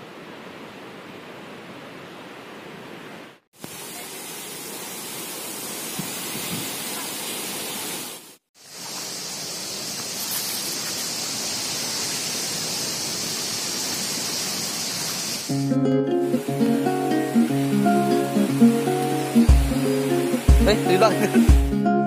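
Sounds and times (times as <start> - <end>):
stream water rushing: 0.0 - 21.7
steady high hiss: 3.0 - 21.7.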